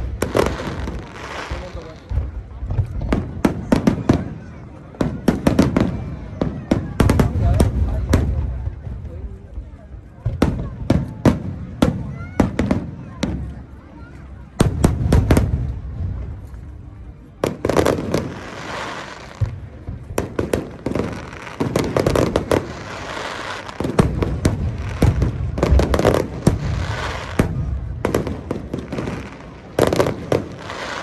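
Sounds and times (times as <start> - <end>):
fireworks bangs: 0.0 - 9.2, 10.2 - 13.8, 14.5 - 16.8, 17.4 - 31.0
fireworks crackling: 0.0 - 31.0.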